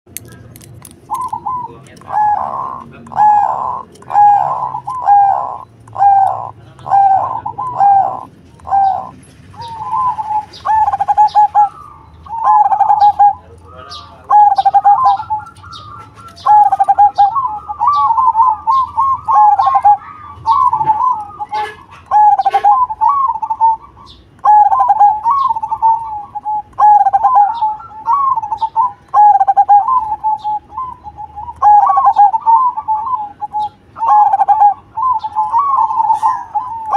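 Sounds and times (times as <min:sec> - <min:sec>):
dove cooing: 0:01.0 - 0:36.9.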